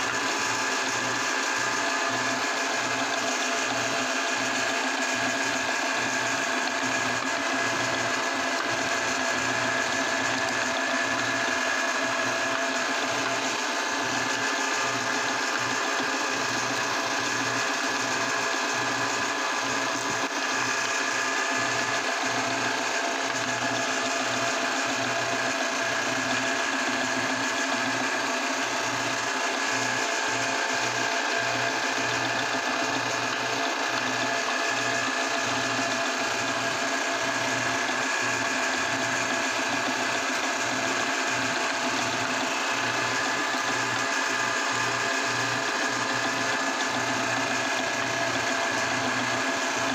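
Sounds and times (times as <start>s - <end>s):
meat grinder whirring: 0.0s - 49.9s.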